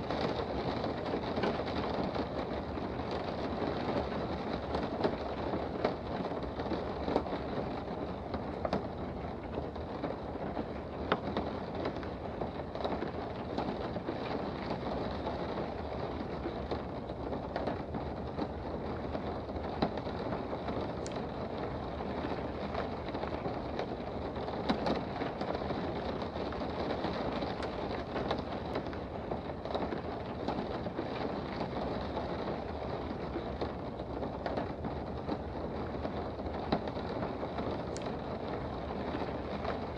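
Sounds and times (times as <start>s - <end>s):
rain hissing: 0.0s - 39.9s
raindrops tapping: 0.0s - 39.9s.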